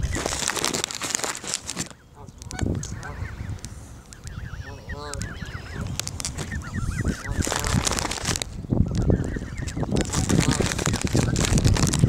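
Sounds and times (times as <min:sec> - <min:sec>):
geese calling: 0:01.9 - 0:11.6.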